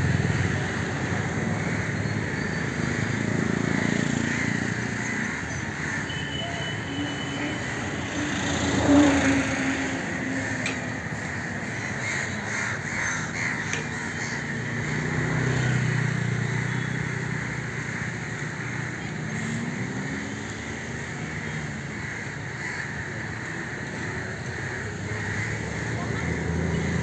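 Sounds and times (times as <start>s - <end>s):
crows cawing: 0.0s - 27.0s.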